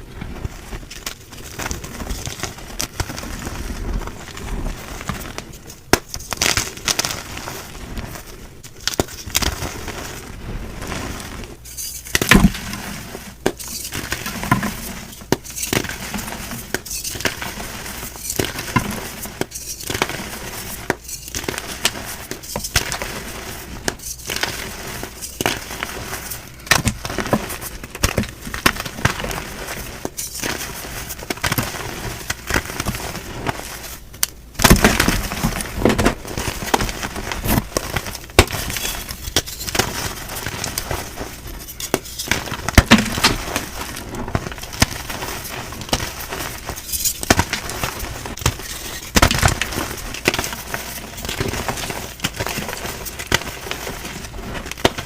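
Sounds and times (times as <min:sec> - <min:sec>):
chalk blocks crunching: 0:10.9 - 0:55.0.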